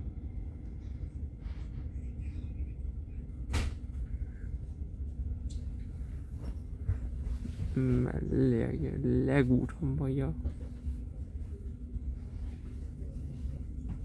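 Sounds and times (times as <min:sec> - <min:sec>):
train rumbling inside coach: 0:00.0 - 0:14.0.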